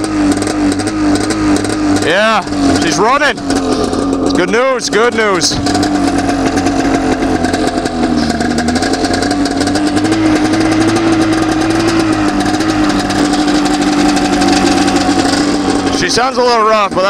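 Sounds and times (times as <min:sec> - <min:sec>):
snowmobile engine idling: 0:00.0 - 0:17.0.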